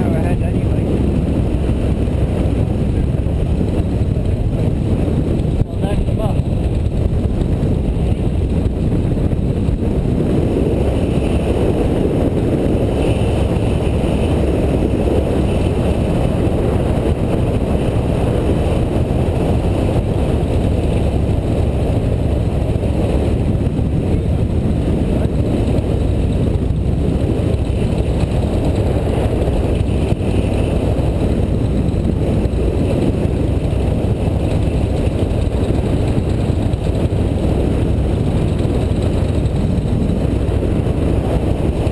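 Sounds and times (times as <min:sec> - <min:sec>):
motorcycle running: 0:00.0 - 0:41.9
wind rushing over microphone: 0:00.0 - 0:41.9.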